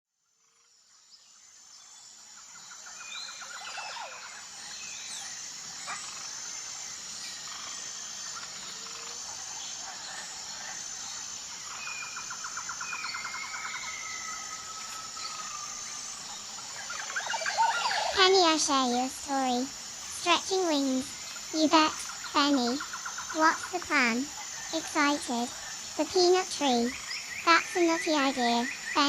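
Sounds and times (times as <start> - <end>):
rapid rattling bird trills: 1.4 - 29.0.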